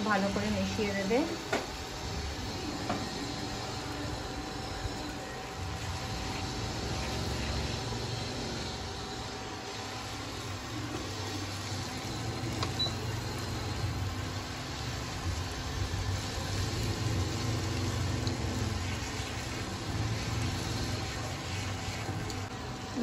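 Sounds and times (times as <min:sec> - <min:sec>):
faint sizzle: 0:00.0 - 0:23.0
steady low hum: 0:00.0 - 0:23.0.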